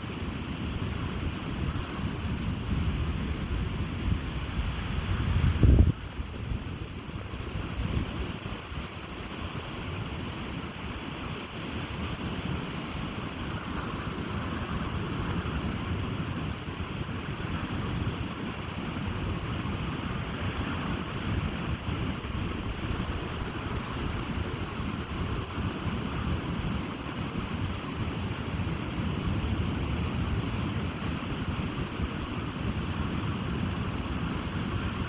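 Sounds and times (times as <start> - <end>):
ocean surf washing on beach: 0.0 - 35.0
wind buffeting microphone: 0.0 - 35.0.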